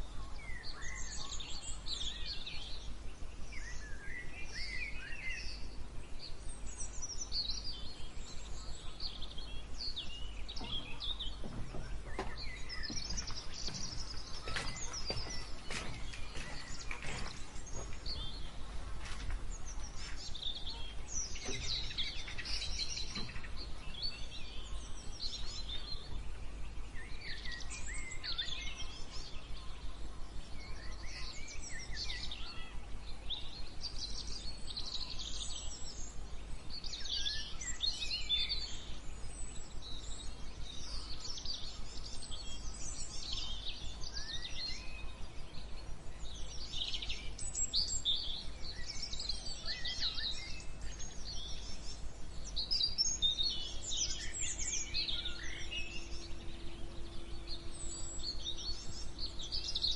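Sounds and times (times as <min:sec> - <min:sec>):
low background hum: 0:00.0 - 0:59.9
songbirds chirping and trilling: 0:00.0 - 0:59.9.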